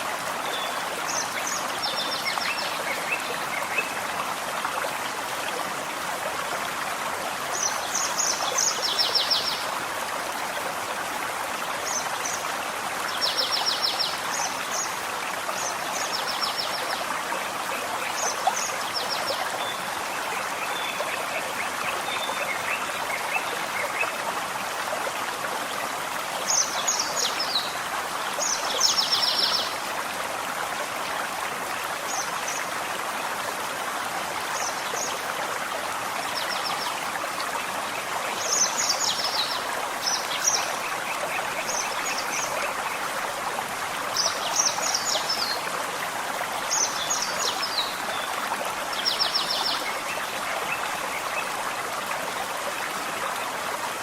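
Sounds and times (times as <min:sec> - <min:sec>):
forest stream running: 0:00.0 - 0:54.0.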